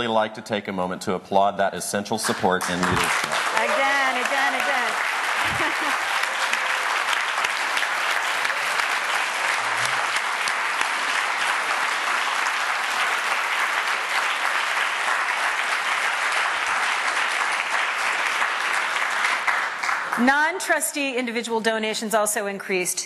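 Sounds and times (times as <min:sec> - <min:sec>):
crowd applauding: 0:02.2 - 0:20.7.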